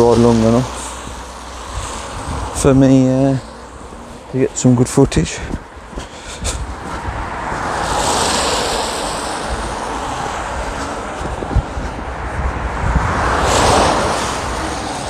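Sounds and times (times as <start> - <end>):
wind rumble on microphone: 0.0 - 15.0
car tyres hissing on wet road: 0.1 - 4.3, 6.4 - 15.0.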